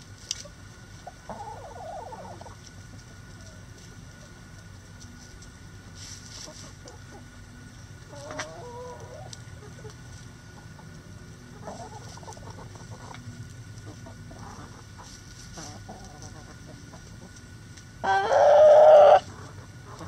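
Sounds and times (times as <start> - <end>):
chickens clucking: 0.0 - 20.0
steady low hum: 0.0 - 20.0.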